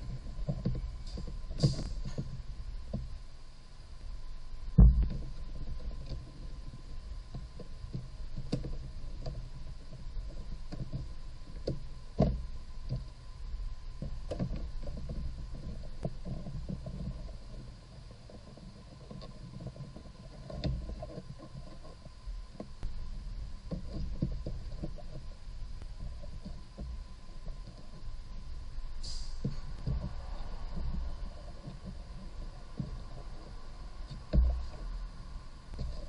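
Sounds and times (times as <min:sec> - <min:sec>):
low steady rumble: 0:00.0 - 0:36.0.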